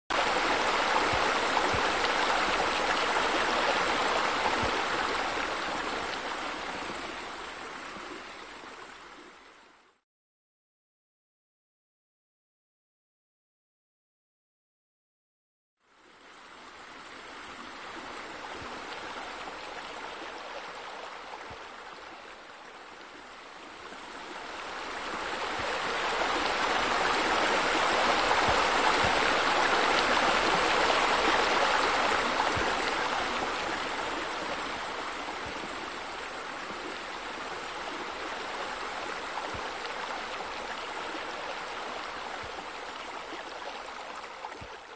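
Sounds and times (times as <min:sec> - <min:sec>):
running water rushing: 0:00.1 - 0:09.8, 0:16.0 - 0:44.9.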